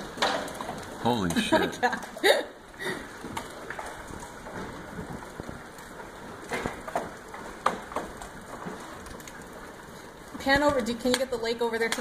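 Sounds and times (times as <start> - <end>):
hail hitting: 0.0 - 12.0.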